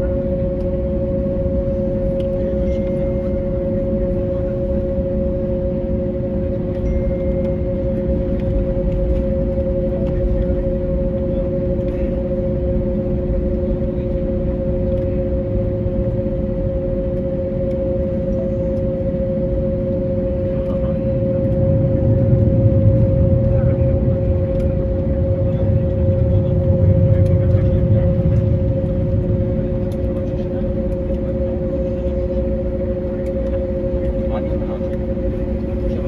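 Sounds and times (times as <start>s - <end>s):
aircraft cabin rumble and hum: 0.0s - 36.0s.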